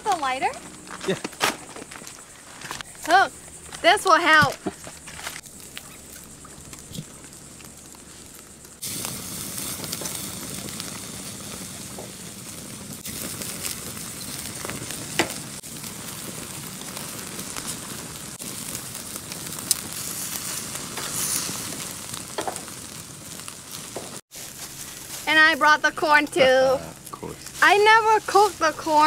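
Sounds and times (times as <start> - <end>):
chicken sizzling on a grill: 5.4 - 29.0.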